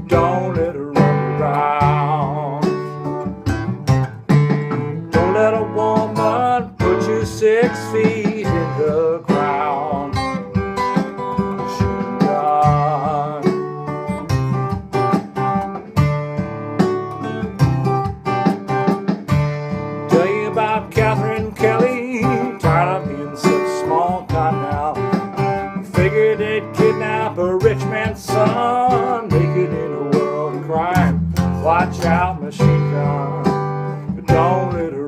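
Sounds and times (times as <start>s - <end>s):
person singing: 0.0s - 3.2s, 5.0s - 15.1s, 17.0s - 18.0s, 20.0s - 35.0s
acoustic guitar strumming: 0.0s - 35.0s.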